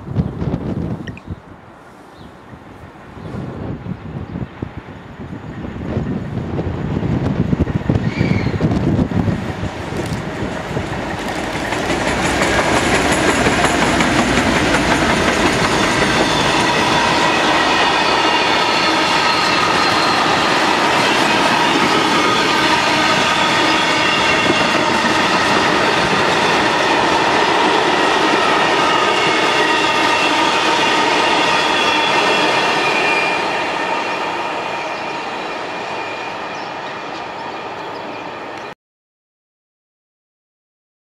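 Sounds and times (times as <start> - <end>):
diesel locomotives passing: 1.5 - 38.8
wagons rumbling on rails: 4.5 - 38.7.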